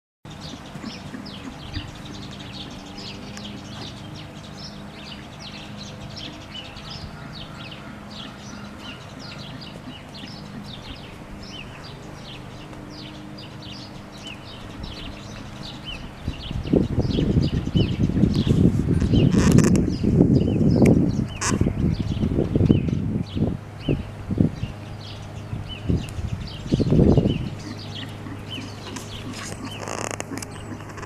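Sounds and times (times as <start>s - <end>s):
birds chirping and singing: 0.3s - 31.0s
low steady hum: 0.3s - 31.0s.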